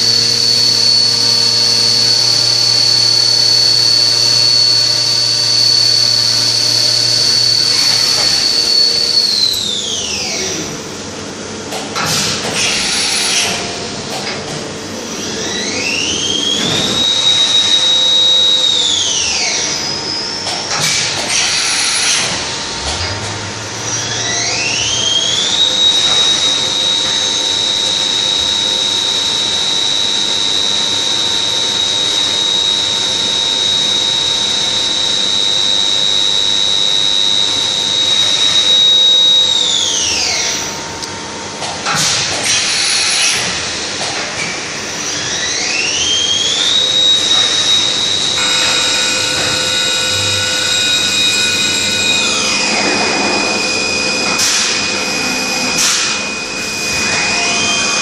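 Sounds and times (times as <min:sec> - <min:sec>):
machine spindle whine: 0:00.0 - 0:58.0.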